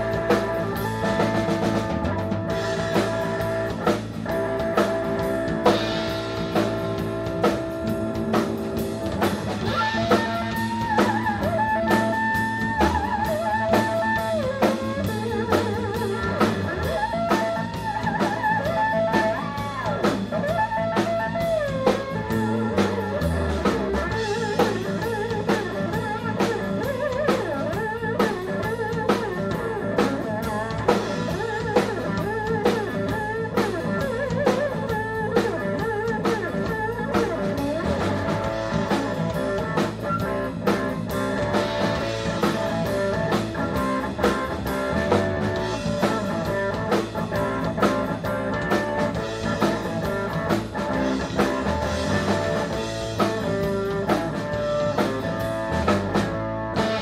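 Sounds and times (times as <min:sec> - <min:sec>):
drum kit beat: 0:00.0 - 0:57.0
electric guitar lead: 0:00.0 - 0:57.0
keyboard: 0:00.0 - 0:57.0.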